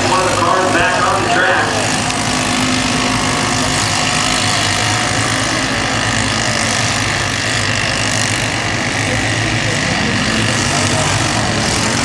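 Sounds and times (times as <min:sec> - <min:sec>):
small race truck engines droning: 0:00.0 - 0:12.0.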